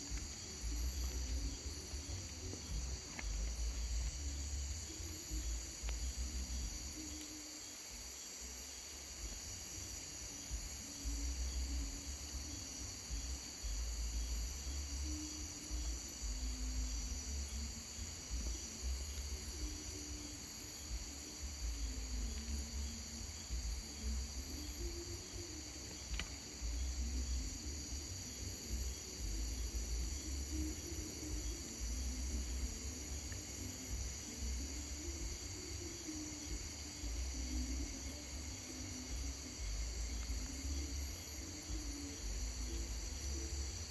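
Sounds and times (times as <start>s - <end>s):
crickets shrilling: 0.0s - 43.9s.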